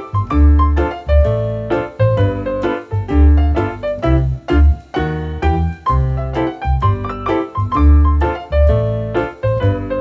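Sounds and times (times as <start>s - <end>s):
bouncing bass line: 0.0s - 10.0s
piano-like keyboard tune: 0.0s - 10.0s.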